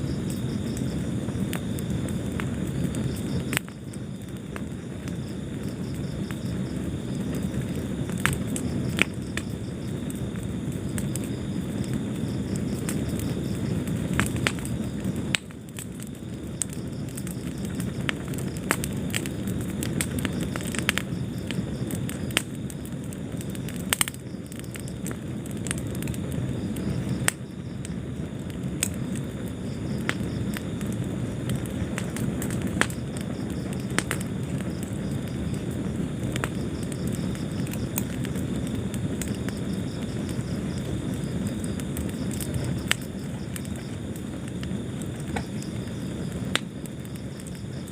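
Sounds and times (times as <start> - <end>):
low rumble of flame: 0.0 - 47.9
wood fire crackling and popping: 0.0 - 47.9.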